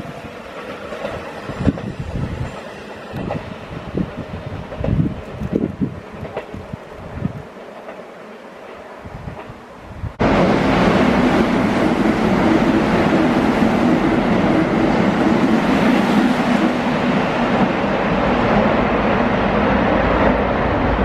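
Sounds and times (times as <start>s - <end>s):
train rushing through station: 0.0s - 21.0s.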